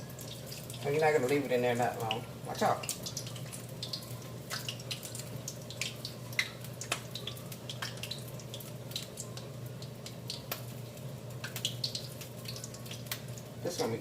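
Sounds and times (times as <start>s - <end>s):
food crackling in hot oil: 0.0s - 14.0s.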